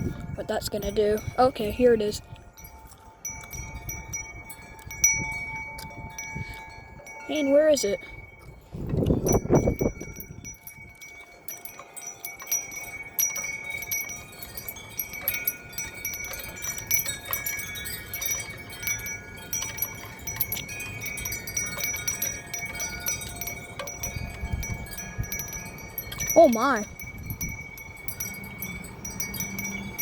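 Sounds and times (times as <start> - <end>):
low wind rumble: 0.0 - 30.0
wind buffeting microphone: 0.0 - 30.0
wind chimes ringing: 0.0 - 30.0.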